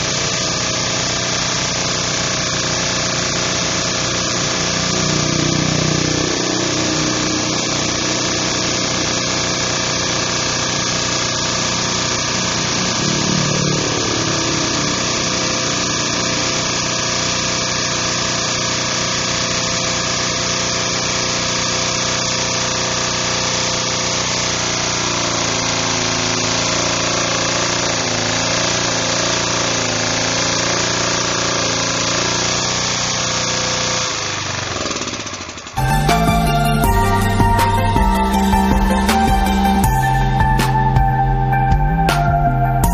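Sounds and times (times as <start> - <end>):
generator engine running: 0.0 - 42.9.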